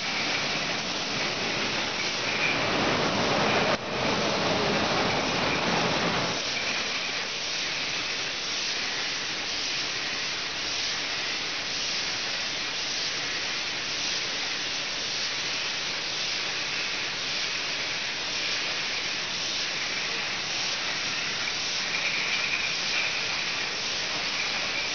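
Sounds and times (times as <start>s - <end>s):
bottling machine hissing: 0.0s - 24.9s.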